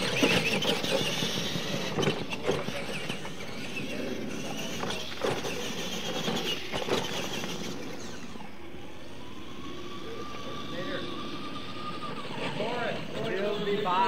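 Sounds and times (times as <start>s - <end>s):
toy truck motors whining: 0.0s - 14.0s
tyres rumbling on dirt: 0.0s - 14.0s.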